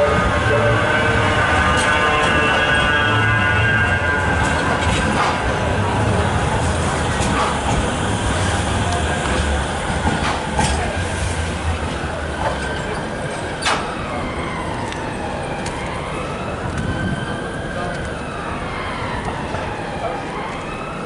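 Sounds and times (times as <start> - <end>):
tram rumbling past: 0.0 - 21.0
tram whine: 0.0 - 21.0.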